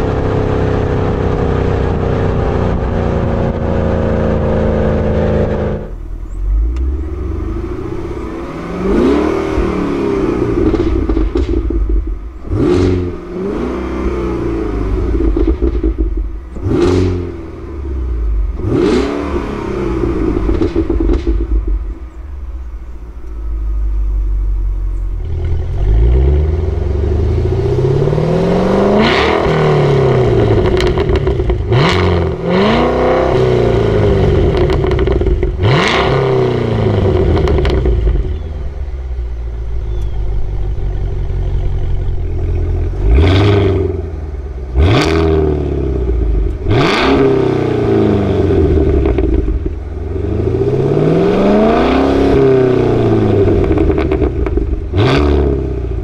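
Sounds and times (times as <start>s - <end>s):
exhaust cracks: 0.0s - 56.0s
car engine revving hard: 3.4s - 22.2s, 25.2s - 38.9s, 40.5s - 56.0s.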